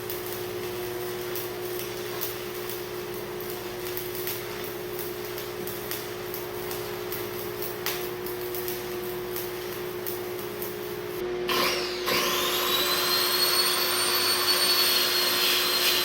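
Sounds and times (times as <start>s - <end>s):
welding arc crackling: 0.0s - 16.0s.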